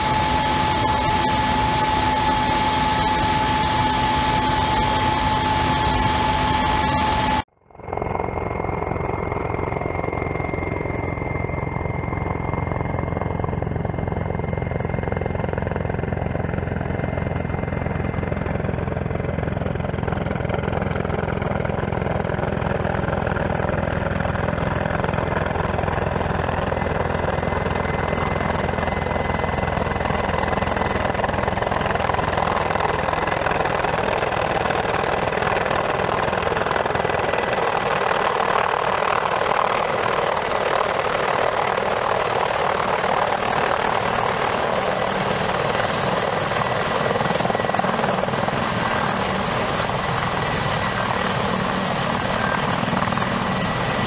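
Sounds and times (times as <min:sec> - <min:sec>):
helicopter engine whine: 0:00.0 - 0:54.0.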